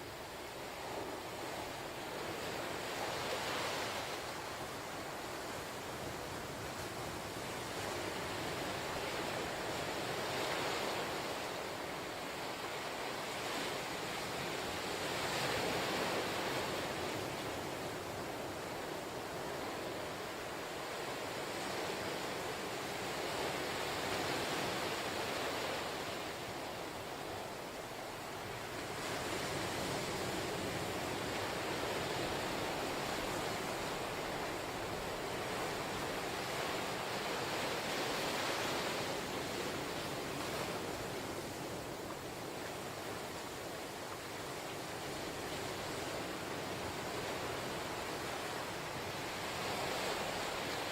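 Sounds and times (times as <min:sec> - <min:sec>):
ocean waves washing ashore: 0:00.0 - 0:50.9.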